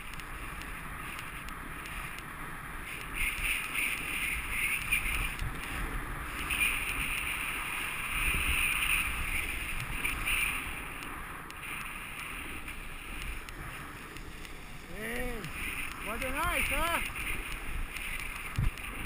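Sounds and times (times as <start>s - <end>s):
snowboard scraping over snow: 0.0s - 19.0s
wind rushing over microphone: 0.0s - 19.0s.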